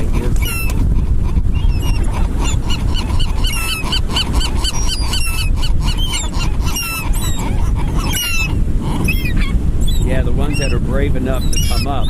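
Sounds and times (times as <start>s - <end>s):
seagulls squawking: 0.0s - 12.0s
steady low rumble: 0.0s - 12.0s.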